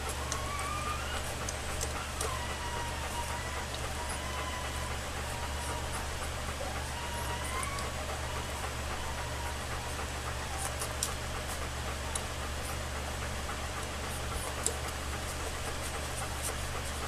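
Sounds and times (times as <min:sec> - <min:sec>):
puppies suckling clicks: 0:00.0 - 0:17.0.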